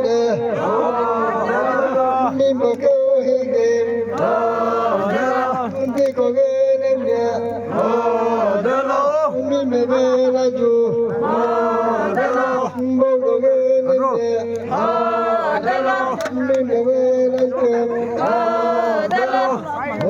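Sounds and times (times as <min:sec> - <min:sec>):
voices chanting a folk song: 0:00.0 - 0:20.0.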